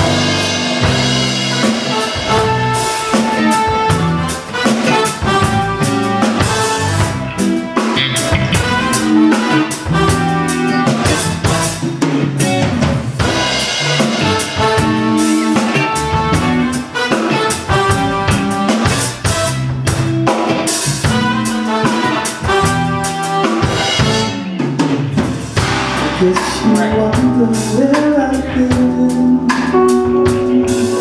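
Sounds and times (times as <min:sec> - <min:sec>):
bass line: 0:00.0 - 0:31.0
drum kit beat: 0:00.0 - 0:31.0.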